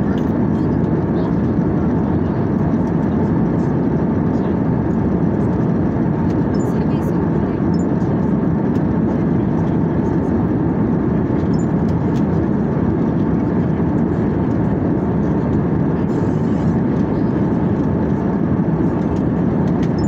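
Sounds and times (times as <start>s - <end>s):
jet airliner cabin rumble: 0.0s - 20.0s.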